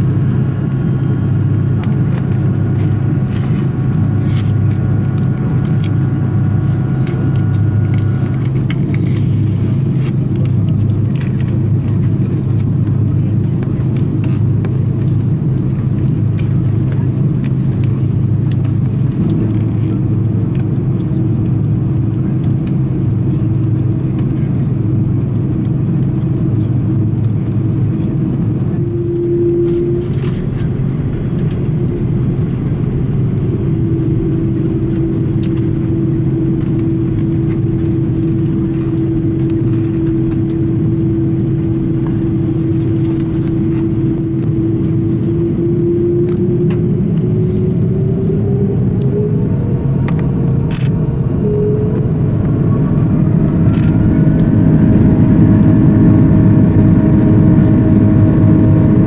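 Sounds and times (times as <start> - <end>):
jet engines humming and whining: 0.0 - 59.0.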